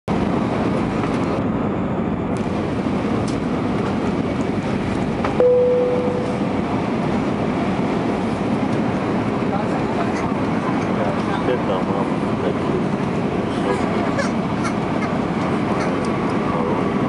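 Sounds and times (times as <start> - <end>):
airplane cabin engine noise: 0.1 - 17.0.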